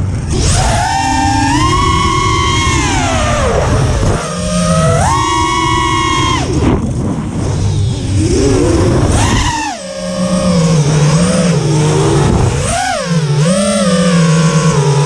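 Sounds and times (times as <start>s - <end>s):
low rumble: 0.0s - 12.8s
drone motors whining: 0.0s - 15.0s.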